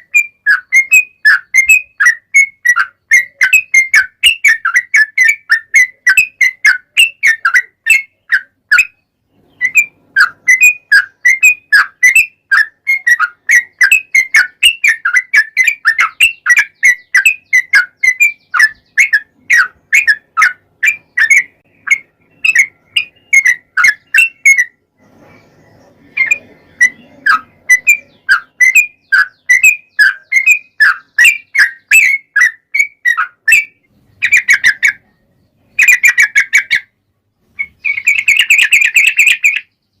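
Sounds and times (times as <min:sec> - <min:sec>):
bird singing whistled chirps: 0:00.0 - 0:36.9, 0:37.5 - 0:40.0.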